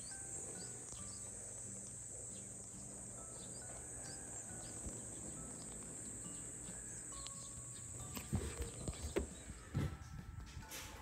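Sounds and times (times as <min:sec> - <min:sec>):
high-pitched insect chorus: 0:00.0 - 0:09.2.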